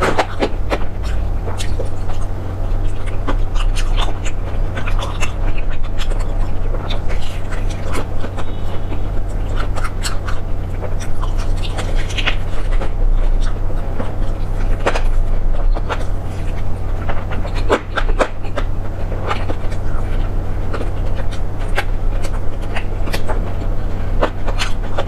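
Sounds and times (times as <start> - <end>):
chewing with wet clicks and crunches: 0.0 - 25.0
steady low hum: 0.0 - 25.0.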